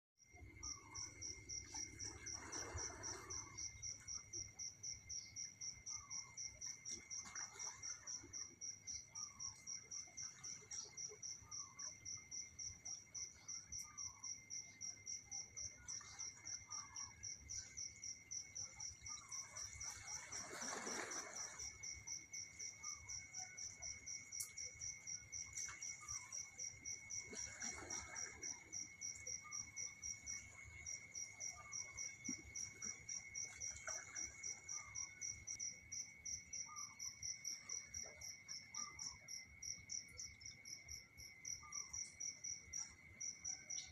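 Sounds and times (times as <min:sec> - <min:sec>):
insect chirping: 0:00.3 - 0:43.9.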